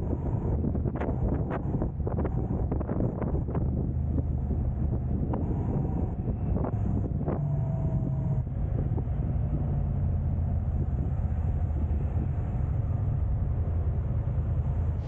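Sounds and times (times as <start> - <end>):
car tyres and engine rumbling: 0.0 - 15.0.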